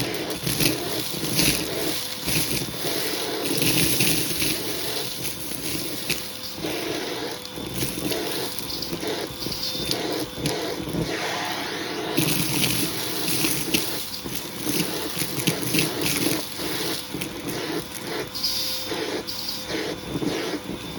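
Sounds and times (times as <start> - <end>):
vacuum cleaner motor whine: 0.0 - 20.9
vacuum hose sucking air: 0.0 - 20.9.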